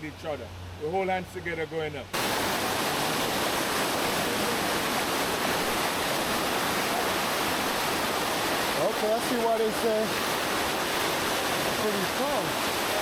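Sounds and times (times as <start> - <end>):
waterfall rushing: 2.2 - 13.0.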